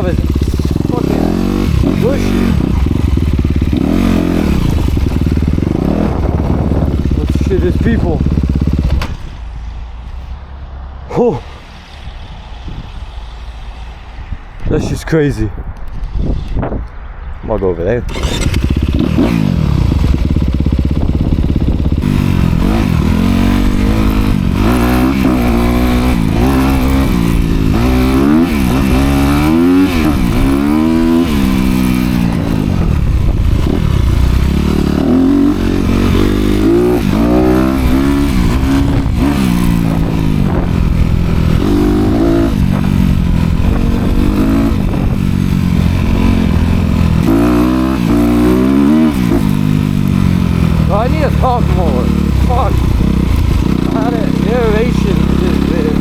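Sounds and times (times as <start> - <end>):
dirt bike engine revving: 0.0 - 9.2, 18.1 - 56.0.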